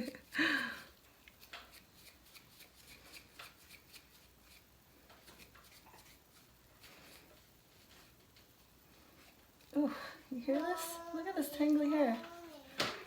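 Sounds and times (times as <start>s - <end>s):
hair rustling: 0.0s - 13.0s.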